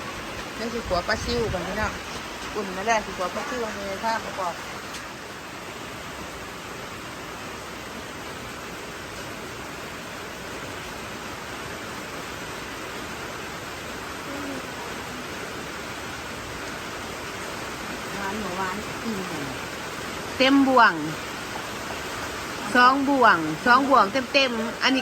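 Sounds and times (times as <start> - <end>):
heavy rain hissing: 0.0 - 25.0
rushing runoff water: 0.0 - 25.0.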